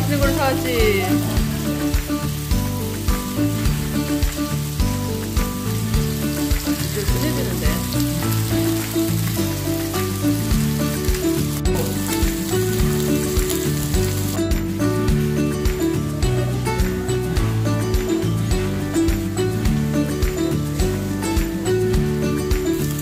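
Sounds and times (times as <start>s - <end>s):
background music: 0.0s - 23.0s
meat sizzling on a griddle: 0.0s - 23.0s.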